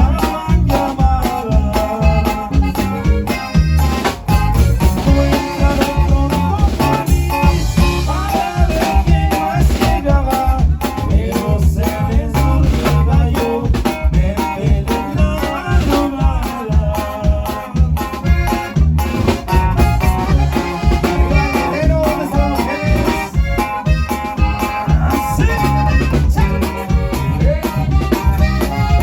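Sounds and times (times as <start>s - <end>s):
band music with drum beat: 0.0s - 29.0s.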